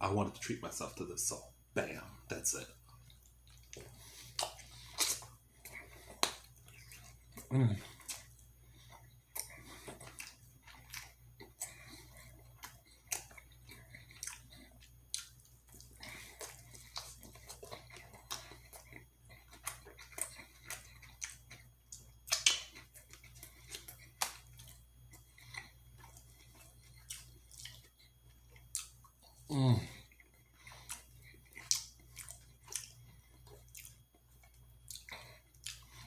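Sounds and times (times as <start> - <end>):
person chewing food: 1.8 - 36.0.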